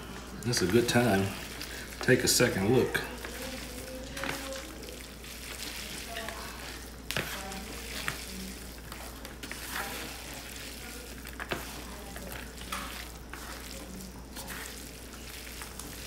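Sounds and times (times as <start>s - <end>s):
gloved hands mixing shredded meat: 0.0s - 16.0s.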